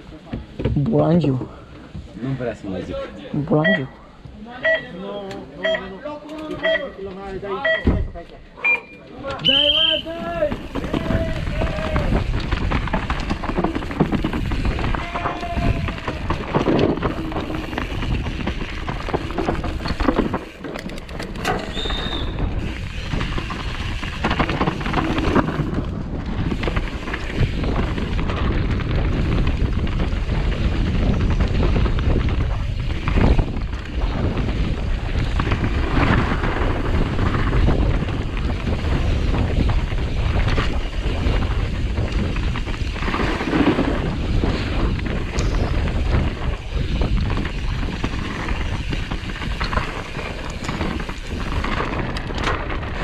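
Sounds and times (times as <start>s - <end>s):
bike knocks and rattles: 0.2s - 1.0s, 9.6s - 53.0s
wind buffeting microphone: 9.8s - 53.0s.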